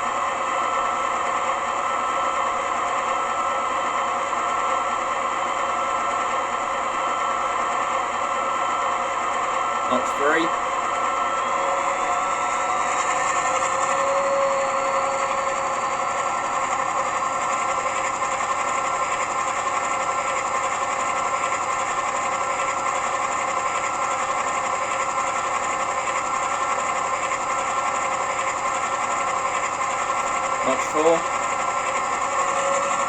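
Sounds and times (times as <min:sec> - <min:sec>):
diesel locomotive engine running: 0:00.0 - 0:33.0.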